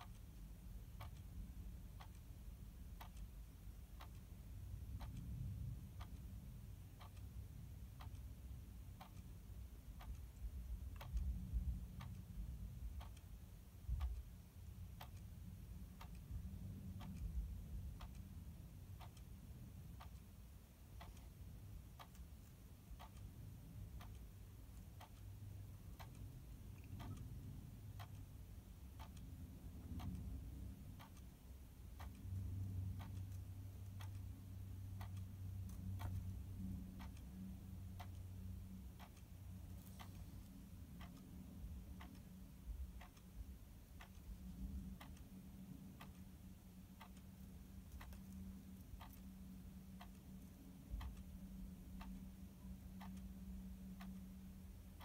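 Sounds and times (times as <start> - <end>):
faint steady ticking: 0.0 - 55.0.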